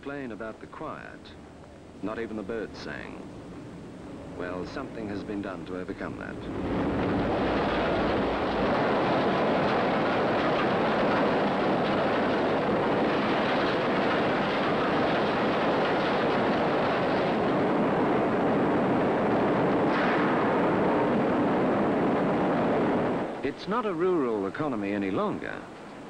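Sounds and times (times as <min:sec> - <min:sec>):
high hiss: 0:00.0 - 0:26.0
loud industrial din: 0:02.9 - 0:24.5.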